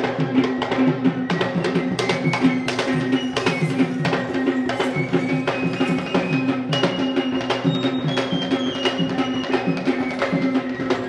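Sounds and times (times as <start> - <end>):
group beating drums: 0.0 - 11.0.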